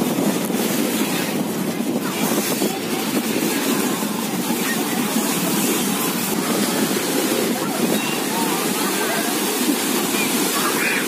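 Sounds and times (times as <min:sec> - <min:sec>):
surf rushing on beach: 0:00.0 - 0:11.0
wind buffeting microphone: 0:00.0 - 0:11.0.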